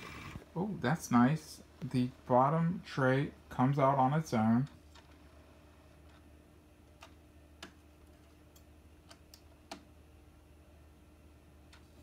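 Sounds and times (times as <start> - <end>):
low steady printer hum: 0.0 - 12.0.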